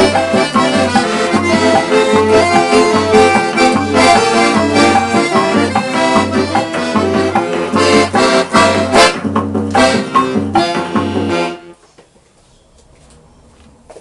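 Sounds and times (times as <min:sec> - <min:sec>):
accordion playing a tune: 0:00.0 - 0:11.8.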